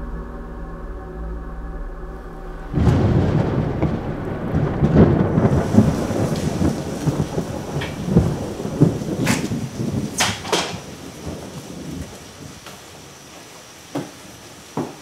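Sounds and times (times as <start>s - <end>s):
rolling thunder: 0.0s - 13.3s
steady rain: 2.2s - 15.0s.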